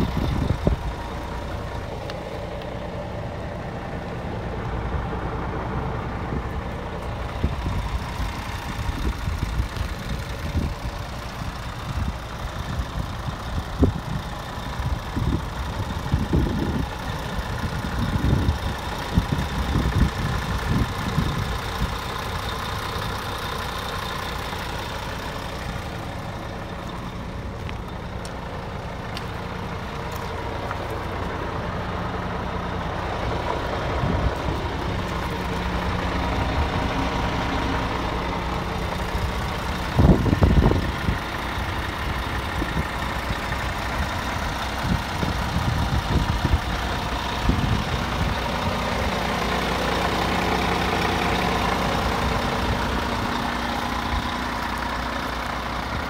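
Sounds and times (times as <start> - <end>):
diesel truck idling: 0.0 - 56.0.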